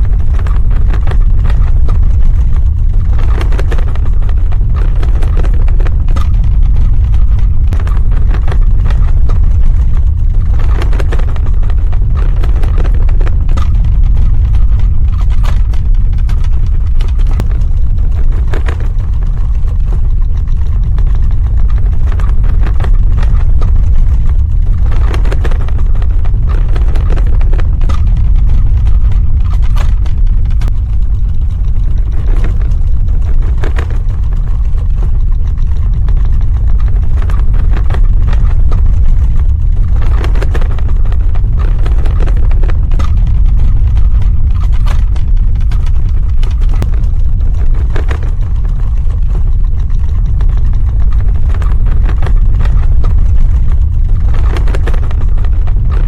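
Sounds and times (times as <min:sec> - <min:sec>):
crackling and rattling: 0:00.0 - 0:56.0
deep continuous rumble: 0:00.0 - 0:56.0.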